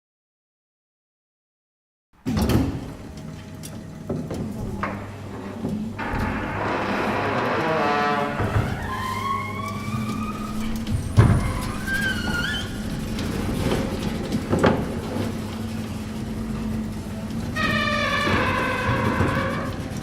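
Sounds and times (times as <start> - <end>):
garage door clunk: 2.2 - 20.0
garage door motor humming: 2.2 - 20.0.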